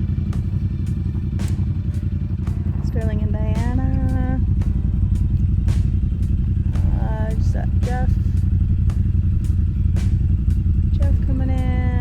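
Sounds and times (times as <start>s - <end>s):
utility vehicle engine droning: 0.0s - 12.0s.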